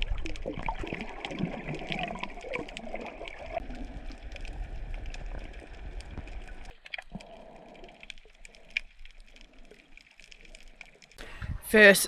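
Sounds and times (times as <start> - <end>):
underwater crackling clicks: 0.0 - 11.5
underwater rumble: 0.0 - 11.6.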